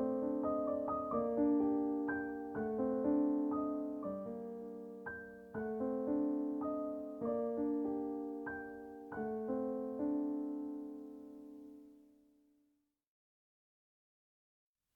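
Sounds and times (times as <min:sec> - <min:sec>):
soft solo piano: 0:00.0 - 0:12.1.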